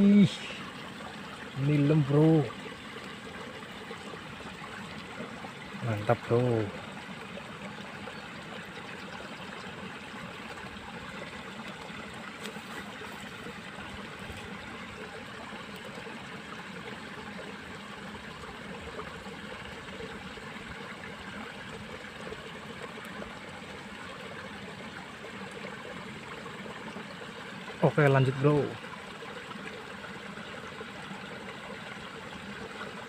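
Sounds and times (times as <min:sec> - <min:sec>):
water trickling in ditch: 0:00.0 - 0:33.0.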